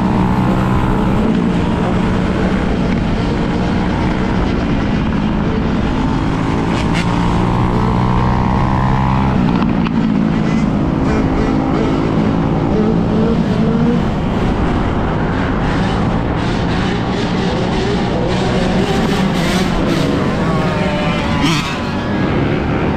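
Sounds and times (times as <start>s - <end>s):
dirt bike engine running: 0.0s - 22.9s
wind noise on microphone: 0.0s - 22.9s.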